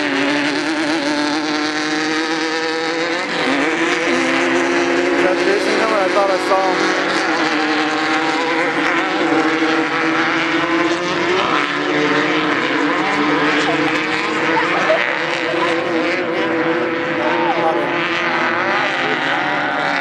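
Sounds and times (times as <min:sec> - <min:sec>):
engines droning: 0:00.0 - 0:20.0.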